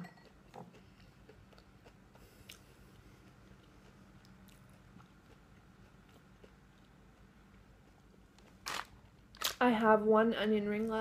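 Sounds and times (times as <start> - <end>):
quiet chewing of fried food: 0.2 - 9.4.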